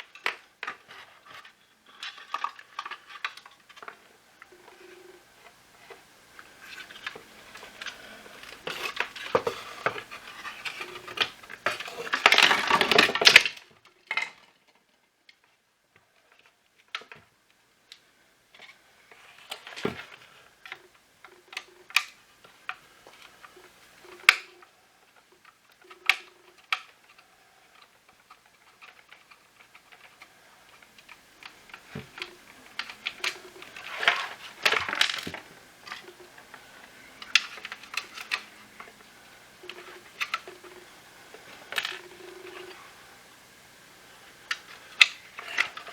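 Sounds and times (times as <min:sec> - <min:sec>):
plastic parts rattling: 0:00.0 - 0:14.6, 0:18.6 - 0:42.9, 0:44.4 - 0:45.9.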